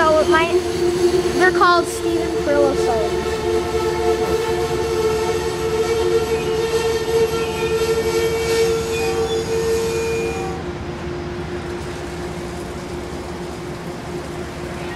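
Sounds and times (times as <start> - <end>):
passenger train rumbling past: 0.0 - 14.9.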